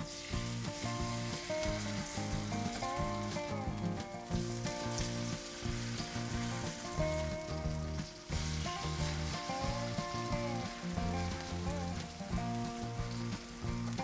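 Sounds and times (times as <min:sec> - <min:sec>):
background music: 0:00.0 - 0:14.0
pancake sizzling in oil: 0:00.0 - 0:14.0.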